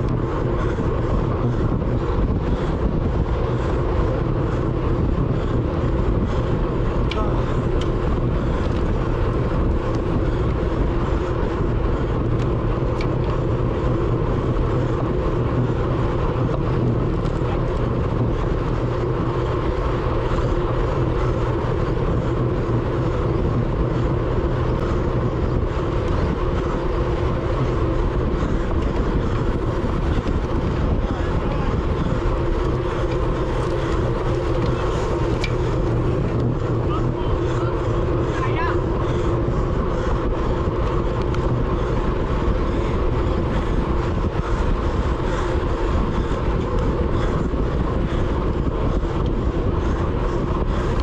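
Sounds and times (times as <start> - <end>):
bicycle tyre noise on road: 0.0 - 51.0
wind rushing: 0.0 - 51.0.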